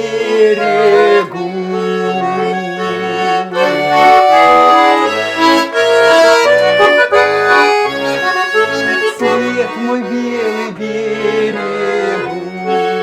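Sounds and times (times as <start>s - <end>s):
button accordion playing: 0.0s - 13.0s
person singing folk song: 0.0s - 13.0s.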